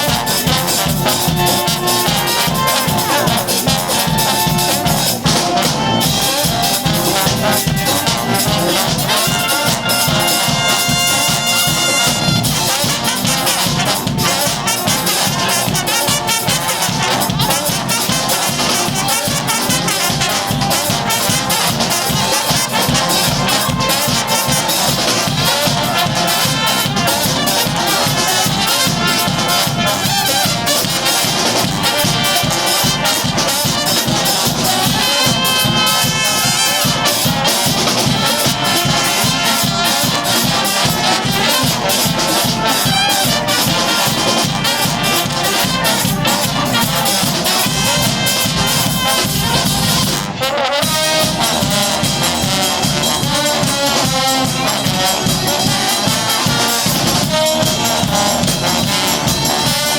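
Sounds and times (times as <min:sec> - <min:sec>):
brass band horns: 0:00.0 - 0:59.9
drums keeping a steady beat: 0:00.0 - 0:59.9.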